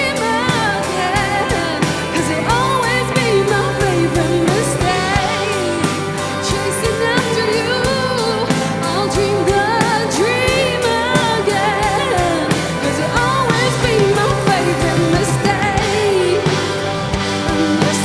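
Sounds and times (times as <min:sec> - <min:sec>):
bass: 0:00.0 - 0:18.0
drum beats: 0:00.0 - 0:18.0
person singing: 0:00.0 - 0:18.0.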